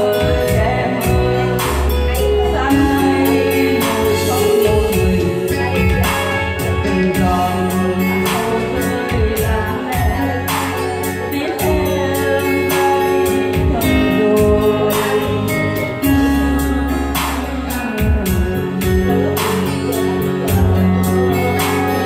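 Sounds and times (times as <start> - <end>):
electronic keyboard: 0.0 - 22.0
woman singing a slow ballad: 0.0 - 22.0.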